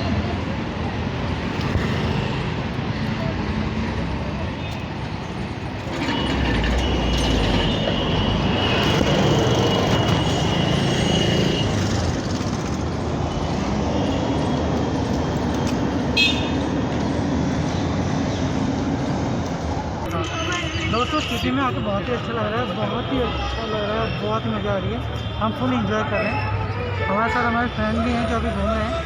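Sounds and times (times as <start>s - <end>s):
vehicle noise: 0.0s - 29.0s.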